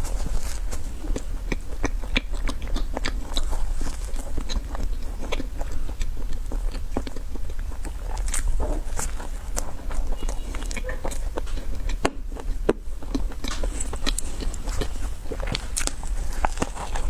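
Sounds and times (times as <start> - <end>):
chewing and crunching dessert: 0.0 - 17.0.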